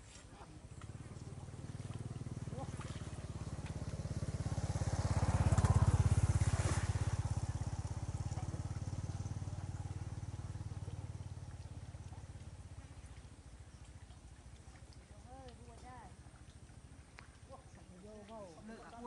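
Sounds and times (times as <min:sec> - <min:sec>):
small engine passing by: 0:00.0 - 0:19.0.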